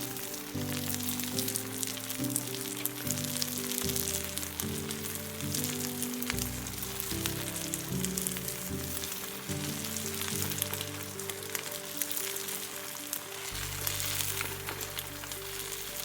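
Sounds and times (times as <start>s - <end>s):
background music with chords: 0.0s - 16.0s
food sizzling in a hot pan: 0.0s - 16.0s.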